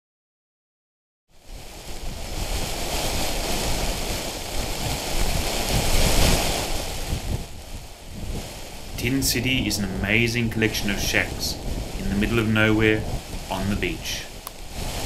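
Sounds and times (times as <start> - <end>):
wind gusting against microphone: 1.3 - 15.0.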